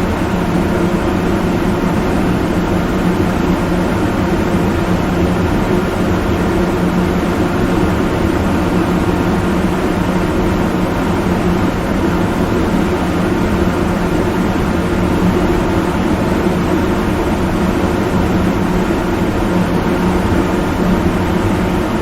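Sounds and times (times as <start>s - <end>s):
loud low droning hum: 0.0s - 22.0s.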